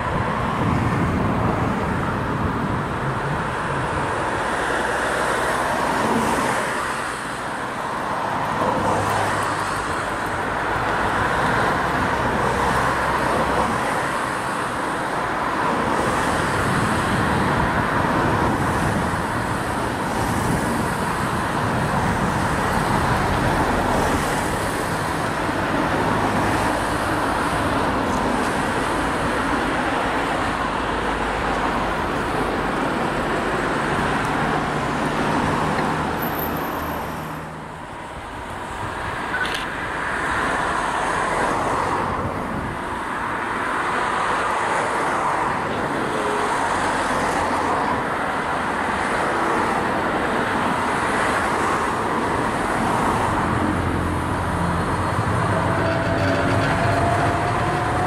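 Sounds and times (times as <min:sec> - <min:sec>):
rumbling vehicle noise: 0:00.0 - 0:58.0.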